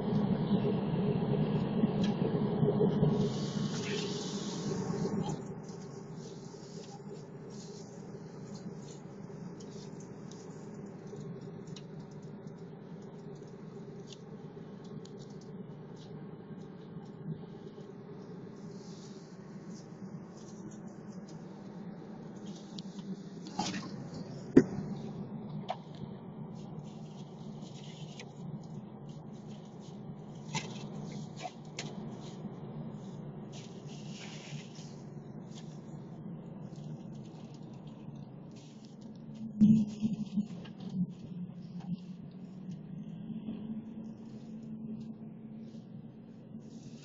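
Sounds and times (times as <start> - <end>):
car interior drone: 0.0 - 47.0
light clicks and scratches: 3.2 - 43.0.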